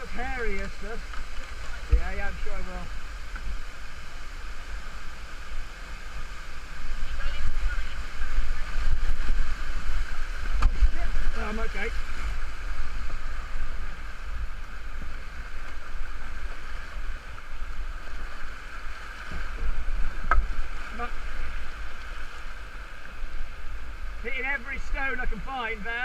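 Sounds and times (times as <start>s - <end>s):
whitewater rushing: 0.0s - 26.0s.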